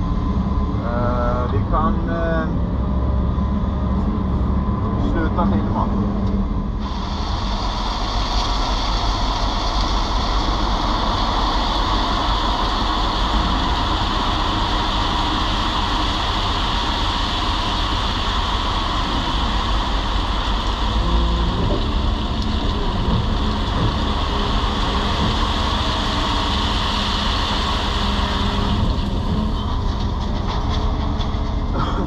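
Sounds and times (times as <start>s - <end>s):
excavator diesel engine and hydraulics: 0.0s - 32.0s.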